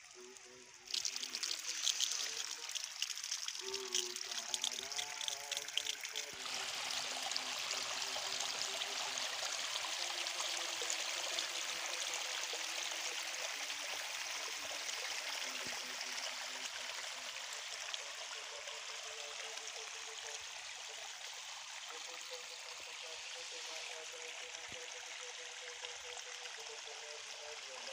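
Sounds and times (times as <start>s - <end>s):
water flowing and splashing: 0.0s - 27.9s.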